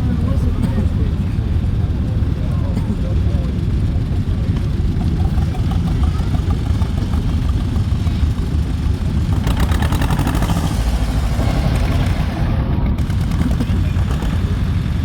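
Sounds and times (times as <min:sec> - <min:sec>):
popping exhaust: 0:00.0 - 0:15.0
tractor engines rumbling: 0:00.0 - 0:15.0.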